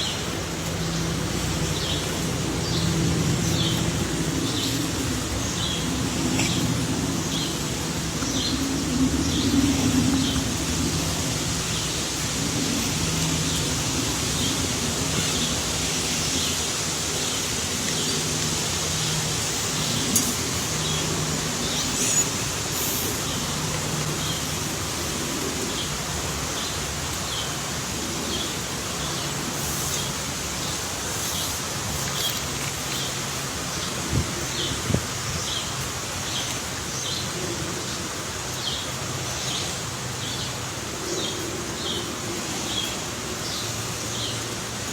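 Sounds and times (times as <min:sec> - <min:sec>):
outdoor hiss: 0:00.0 - 0:44.9.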